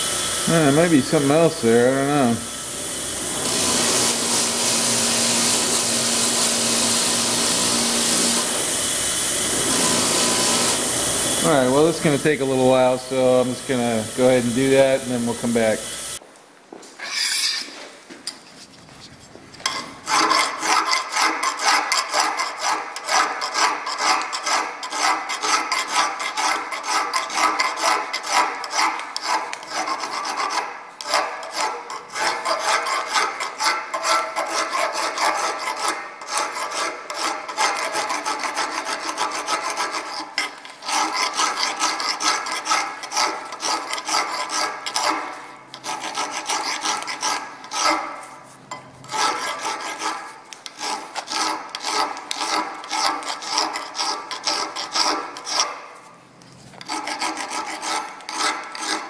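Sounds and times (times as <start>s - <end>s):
file rasping on steel: 0.0s - 15.8s, 19.7s - 56.1s, 56.8s - 59.0s.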